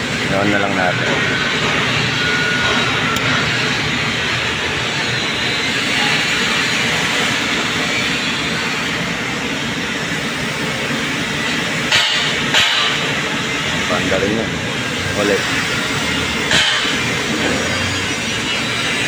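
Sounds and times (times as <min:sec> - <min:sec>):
air conditioner units droning: 0:00.0 - 0:19.0.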